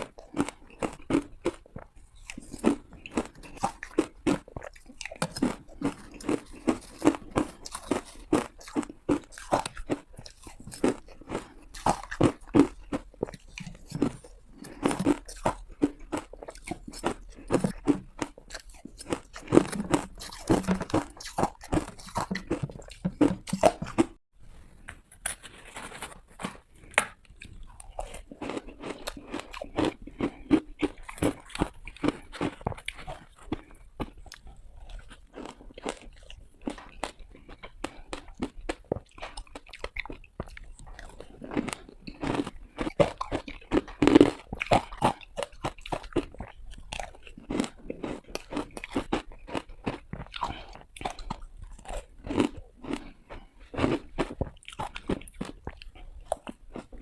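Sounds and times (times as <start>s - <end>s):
person chewing hard ice: 0.0s - 24.2s, 24.9s - 57.0s.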